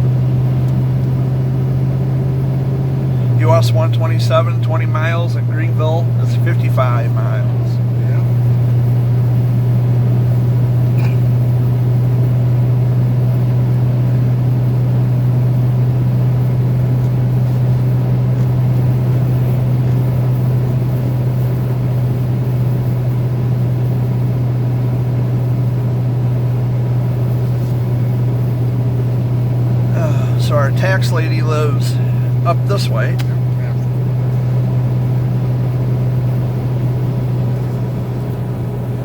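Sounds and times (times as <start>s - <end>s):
vehicle road and engine drone: 0.0s - 39.0s.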